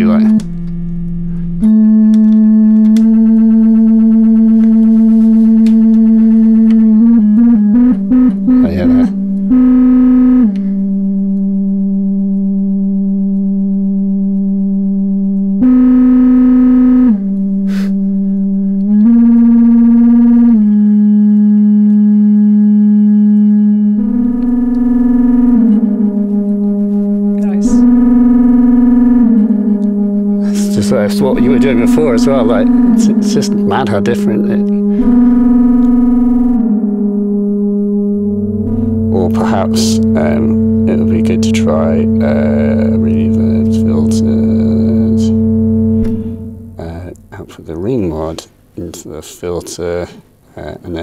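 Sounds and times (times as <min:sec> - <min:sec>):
analogue synthesizer drone: 0:00.0 - 0:50.4.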